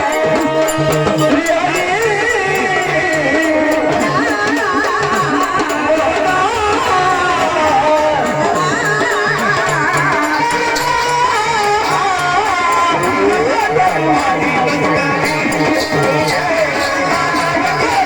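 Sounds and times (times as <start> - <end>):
quick steady drum beat: 0.0 - 18.0.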